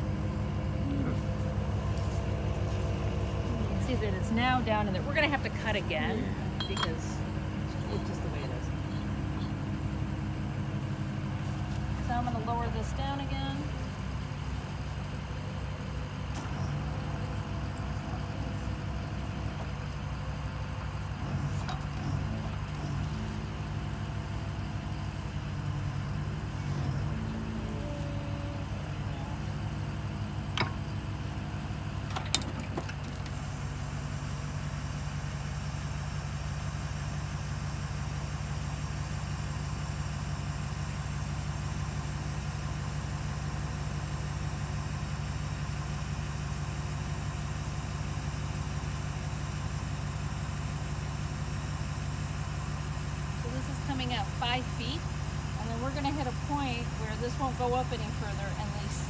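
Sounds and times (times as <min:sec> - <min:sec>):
drill rig engine running: 0:00.0 - 0:59.0.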